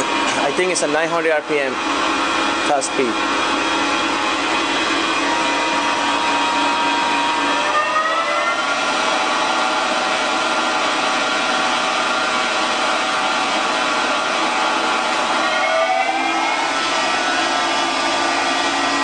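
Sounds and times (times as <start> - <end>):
lathe spindle whine: 0.0 - 19.0.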